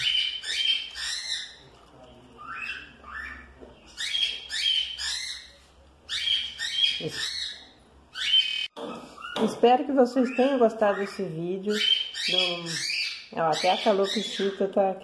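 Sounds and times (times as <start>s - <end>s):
cockatiel calling: 0.0s - 1.6s, 2.4s - 9.4s, 10.2s - 14.5s.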